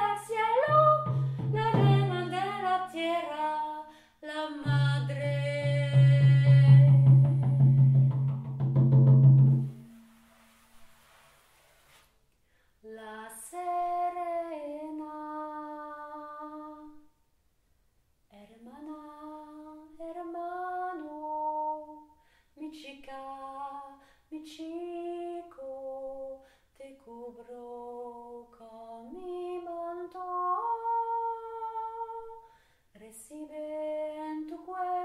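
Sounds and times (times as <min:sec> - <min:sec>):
woman singing unaccompanied: 0:00.0 - 0:08.2, 0:12.8 - 0:17.1, 0:18.3 - 0:32.4, 0:33.0 - 0:35.0.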